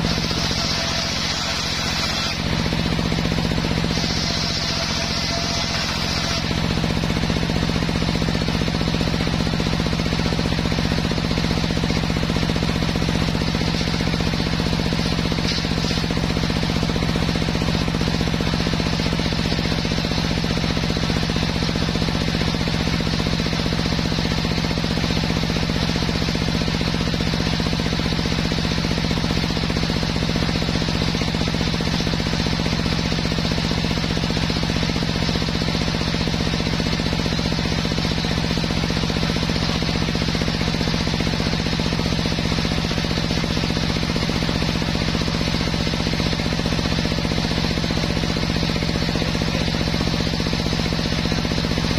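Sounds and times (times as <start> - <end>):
circular saw running: 0.0 - 51.9.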